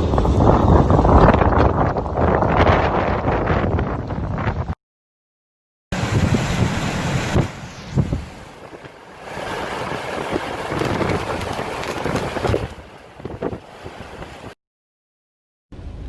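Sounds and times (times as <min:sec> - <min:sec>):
wind buffeting microphone: 0:00.0 - 0:04.8, 0:06.0 - 0:14.6.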